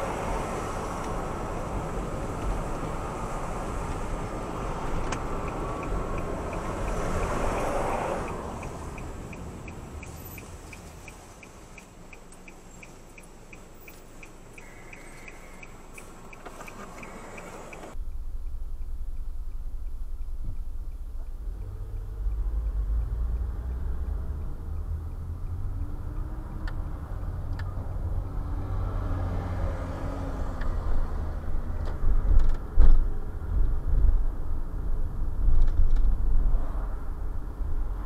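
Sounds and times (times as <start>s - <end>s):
car road and engine rumble: 0.0s - 38.0s.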